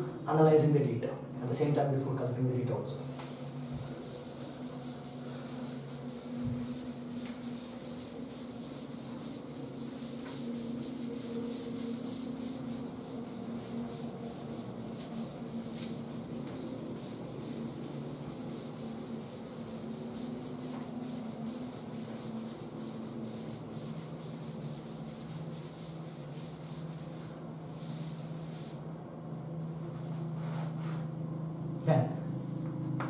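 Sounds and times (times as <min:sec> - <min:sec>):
duster rubbing on chalkboard: 0:02.9 - 0:28.9, 0:29.8 - 0:31.2.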